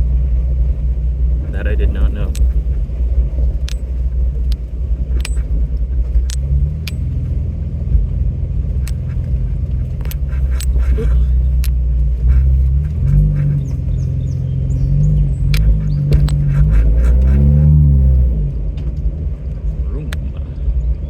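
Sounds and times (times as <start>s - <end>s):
engine and road drone: 0.0s - 21.0s
vehicle rattling over bumps: 0.0s - 21.0s.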